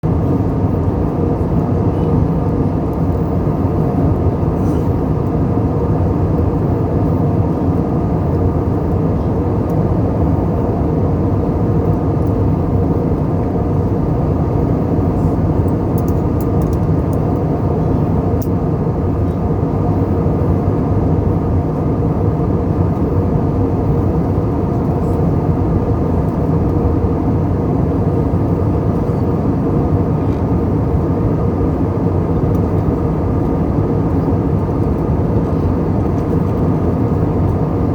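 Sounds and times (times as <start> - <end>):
airliner low rumble: 0.0 - 37.9.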